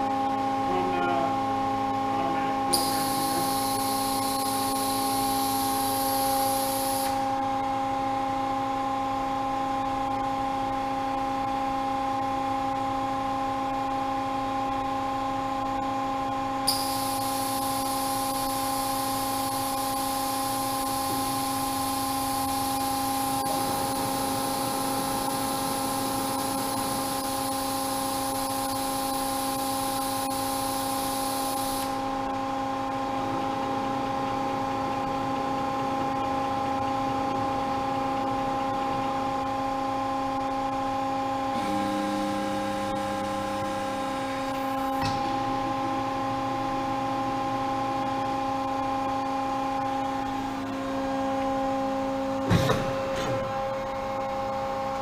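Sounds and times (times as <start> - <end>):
hydraulic pump humming and whining: 0.0 - 55.0.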